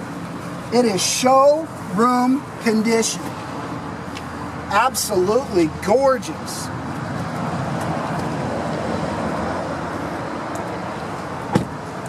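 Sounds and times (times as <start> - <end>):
road traffic rush: 0.0 - 12.0.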